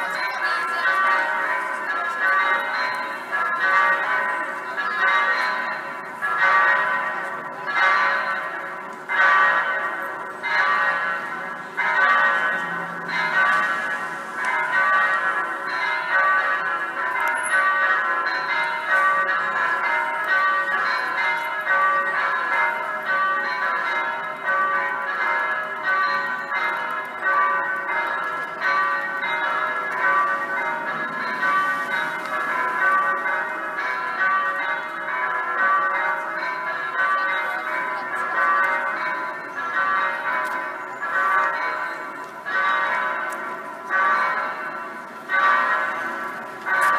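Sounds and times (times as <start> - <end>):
electronic church bells ringing: 0.0 - 46.9.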